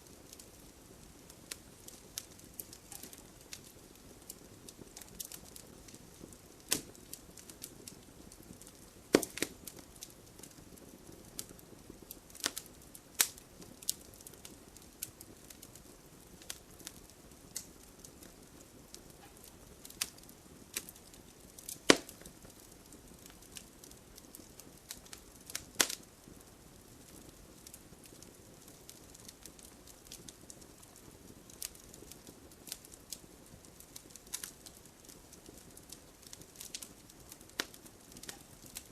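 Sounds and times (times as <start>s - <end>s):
fire crackling and popping: 0.0s - 38.9s
fire hissing: 0.0s - 38.9s.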